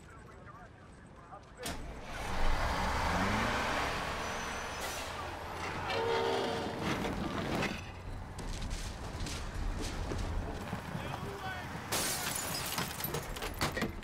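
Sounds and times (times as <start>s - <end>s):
bus engine rumbling: 1.7s - 14.0s
tyres rolling: 1.7s - 14.0s.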